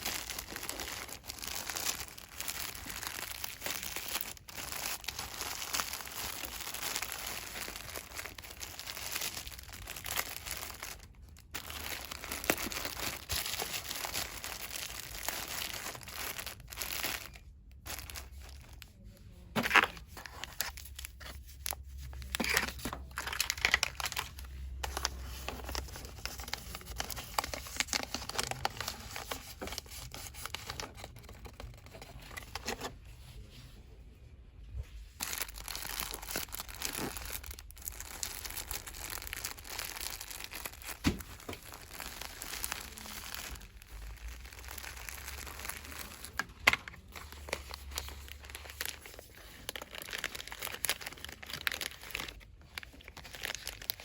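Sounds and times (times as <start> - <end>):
sharp packaging crackles: 0.0 - 32.9, 35.2 - 54.0
packaging crinkling and rustling: 0.0 - 33.4, 35.0 - 54.0.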